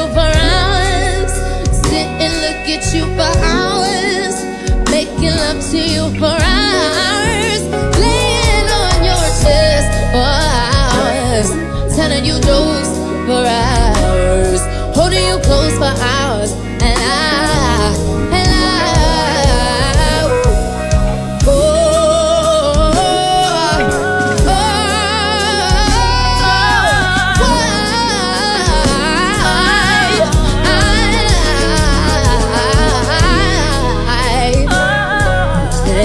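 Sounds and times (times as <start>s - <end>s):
live band playing: 0.0s - 36.0s
woman singing with vibrato: 0.0s - 36.0s.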